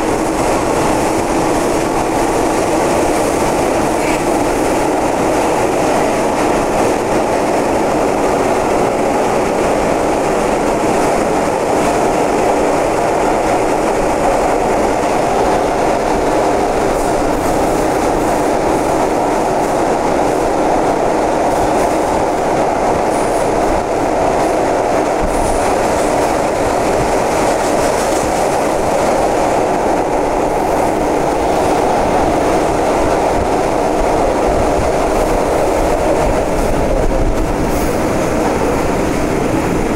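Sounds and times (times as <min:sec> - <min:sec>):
subway train wheels on rails: 0:00.0 - 0:39.9.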